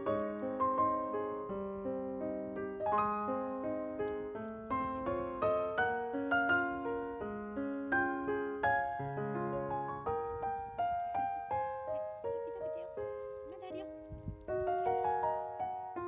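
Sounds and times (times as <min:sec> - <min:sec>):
gentle solo piano melody: 0:00.0 - 0:16.0.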